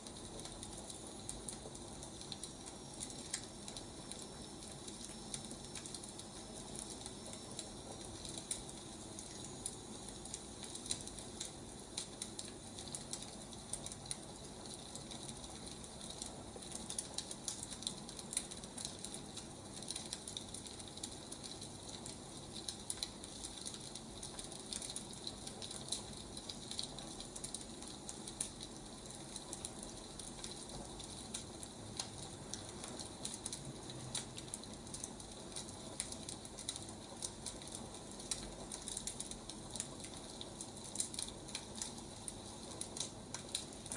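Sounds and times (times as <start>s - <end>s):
burning firewood crackling: 0.0s - 43.9s.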